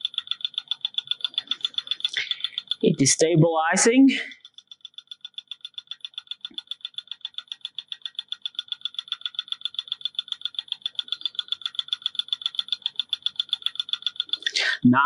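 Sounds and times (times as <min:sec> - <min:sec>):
stir bar ticking rapidly: 0:00.0 - 0:14.6.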